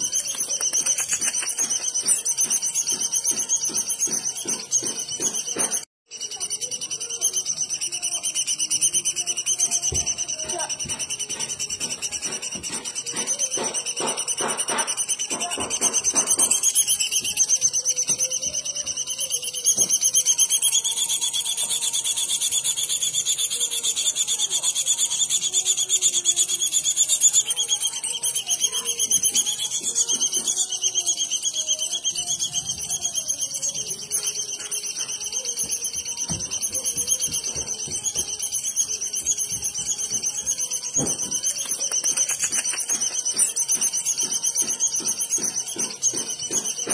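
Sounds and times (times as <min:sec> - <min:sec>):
bird trilling: 0:00.0 - 0:46.9.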